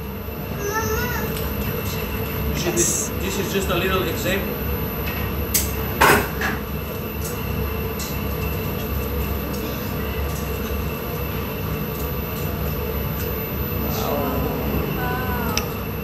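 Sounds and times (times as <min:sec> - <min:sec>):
low roar of furnaces and fans: 0:00.0 - 0:16.0.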